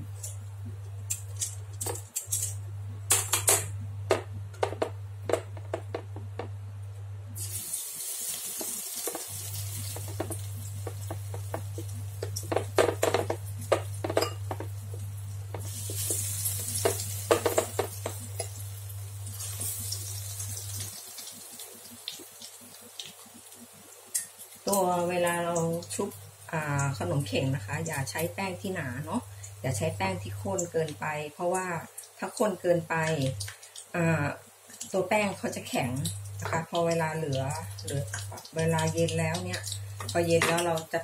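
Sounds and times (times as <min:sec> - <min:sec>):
food sizzling in hot oil: 0:07.4 - 0:41.0.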